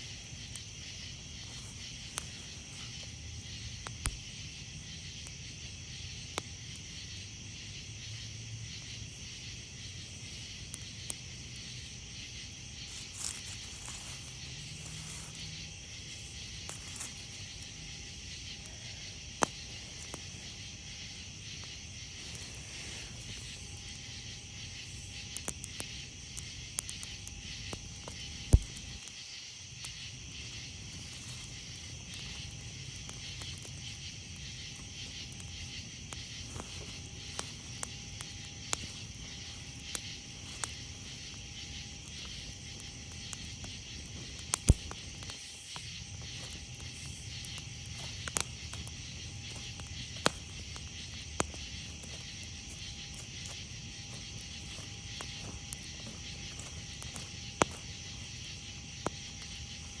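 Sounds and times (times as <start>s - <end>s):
campfire crackling and popping: 0.0s - 60.0s
night insects chorus: 0.0s - 60.0s.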